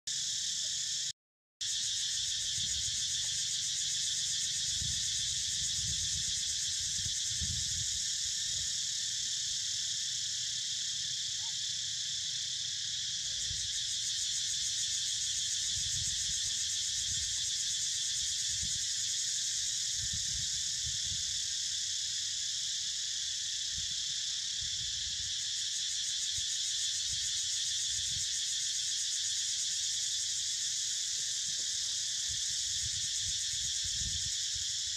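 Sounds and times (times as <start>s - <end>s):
insects buzzing shrilly: 0.1s - 34.9s.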